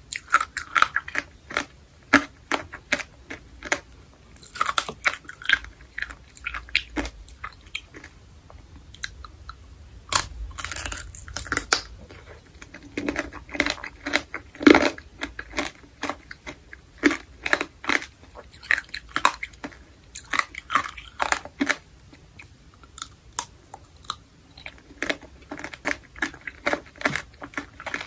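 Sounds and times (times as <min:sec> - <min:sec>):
chewing crunchy candied fruit: 0:00.0 - 0:28.0.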